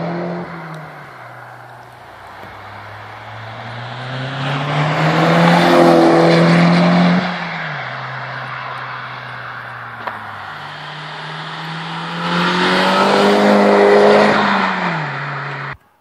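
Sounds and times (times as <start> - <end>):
car accelerating hard past: 2.6 - 15.8.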